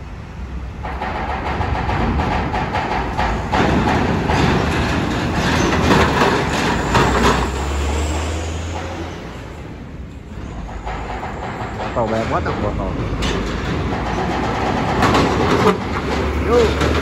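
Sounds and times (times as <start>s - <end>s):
diesel truck engines: 0.0s - 17.0s
tyres clanking over steel ramp: 0.4s - 17.0s.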